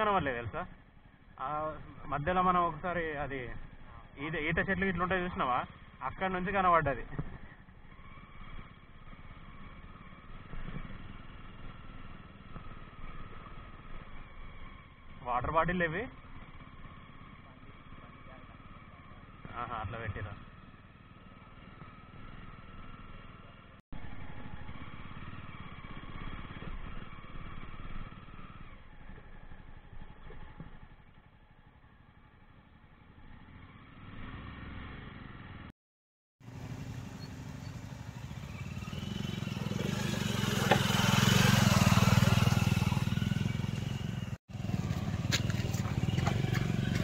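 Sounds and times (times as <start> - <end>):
motorcycle engine running: 0.0 - 35.7, 36.4 - 47.0.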